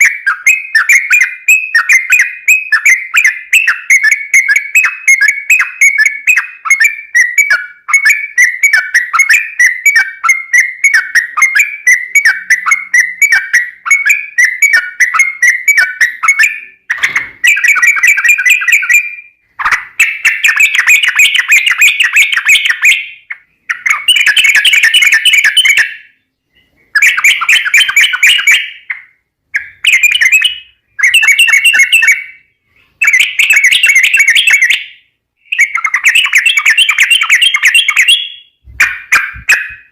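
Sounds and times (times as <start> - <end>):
bird rapid chirps: 0.0 - 39.9.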